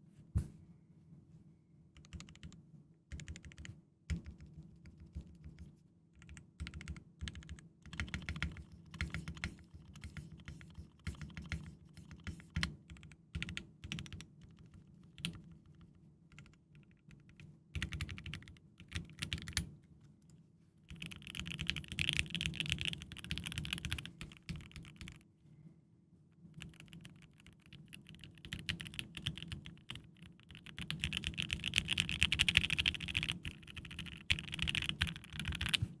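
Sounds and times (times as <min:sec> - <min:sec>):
mechanical keyboard typing: 0:02.0 - 0:19.7, 0:20.9 - 0:25.2, 0:26.6 - 0:35.9.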